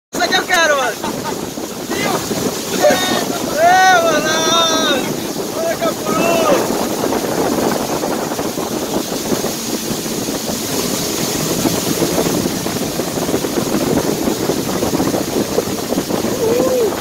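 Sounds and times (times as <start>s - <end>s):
boat motor running: 0.2s - 17.0s
wind buffeting microphone: 0.2s - 17.0s.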